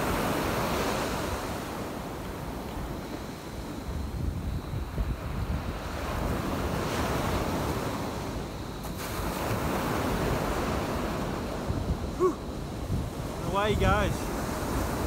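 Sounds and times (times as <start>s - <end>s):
surf waves breaking: 0.0s - 15.0s
wind on microphone: 0.0s - 15.0s.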